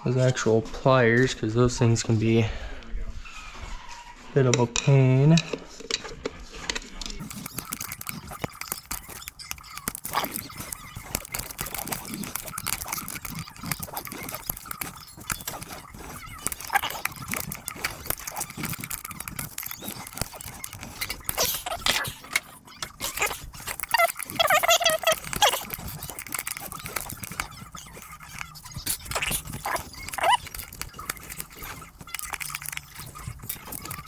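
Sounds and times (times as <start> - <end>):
tool clicking and scraping metal: 4.8 - 34.0.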